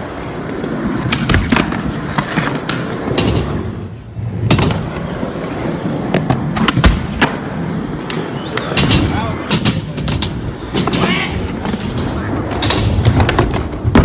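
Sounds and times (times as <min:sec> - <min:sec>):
skateboard wheels rolling: 0:00.0 - 0:14.0
skateboard clacks and thuds: 0:00.4 - 0:14.0.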